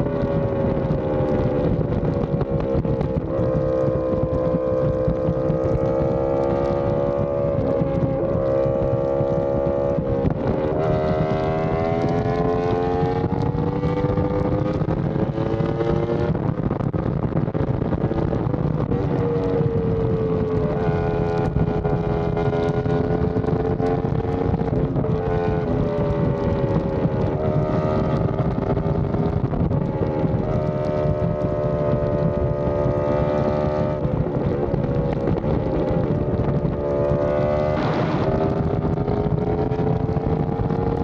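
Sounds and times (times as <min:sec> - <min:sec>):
motorcycle engine at speed: 0:00.0 - 0:41.0
wind rush: 0:00.0 - 0:41.0.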